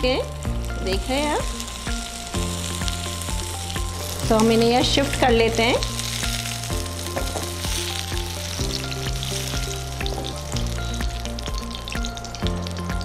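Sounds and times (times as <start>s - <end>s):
background music with held notes: 0.0s - 13.0s
hot oil sizzling in a pan: 0.0s - 13.0s.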